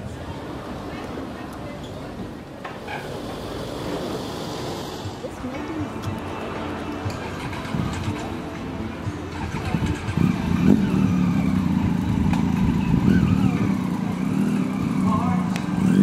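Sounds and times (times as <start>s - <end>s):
trike engine revving: 3.0s - 16.0s.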